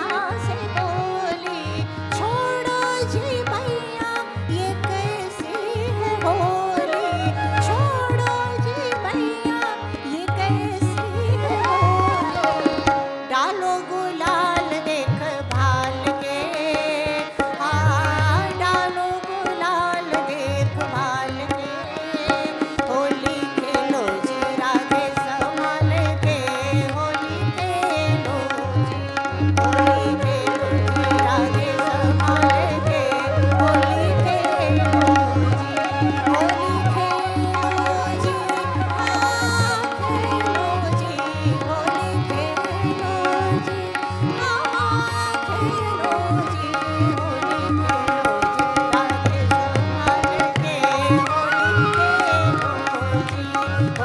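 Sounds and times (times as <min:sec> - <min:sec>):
harmonium: 0:00.0 - 0:54.0
tabla: 0:00.0 - 0:54.0
woman singing: 0:00.0 - 0:54.0.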